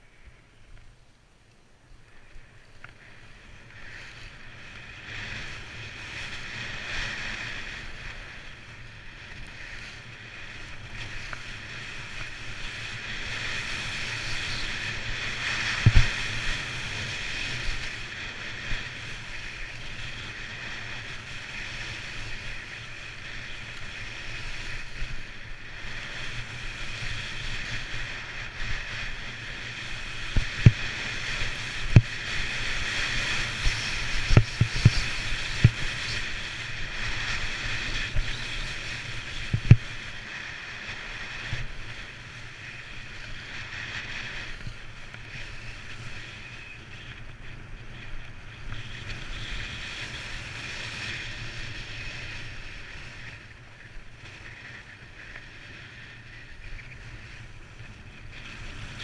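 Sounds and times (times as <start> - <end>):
skis swishing on snow: 2.9 - 59.0
wind buffeting microphone: 4.8 - 59.0.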